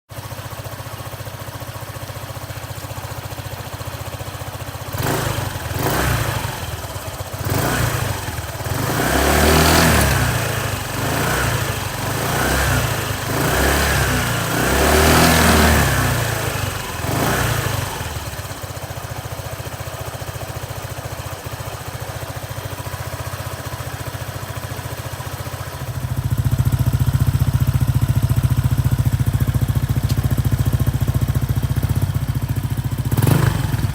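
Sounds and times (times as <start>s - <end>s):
scooter engine idling and revving: 0.1s - 33.9s.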